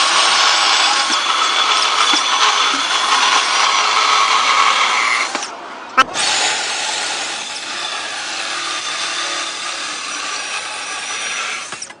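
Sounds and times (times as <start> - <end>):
hole saw drill cutting: 0.0 - 12.0.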